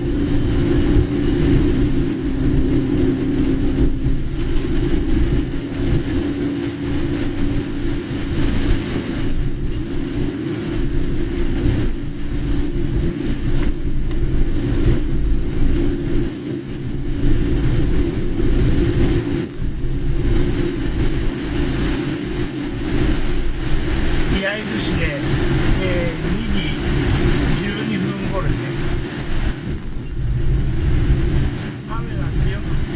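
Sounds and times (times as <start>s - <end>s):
car engine and tyre drone: 0.0s - 32.9s
wet road and rain hiss: 0.0s - 32.9s.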